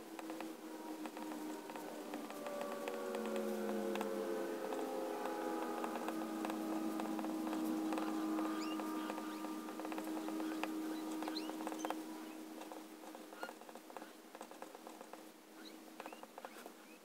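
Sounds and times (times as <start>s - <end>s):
steady hum: 0.0s - 16.2s.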